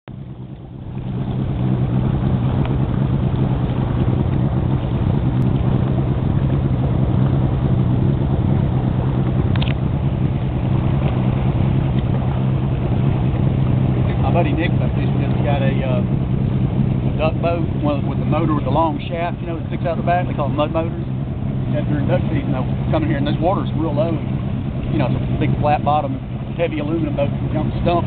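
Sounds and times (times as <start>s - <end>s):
outboard engine running: 0.0s - 28.0s
water and wind rushing: 0.1s - 28.0s.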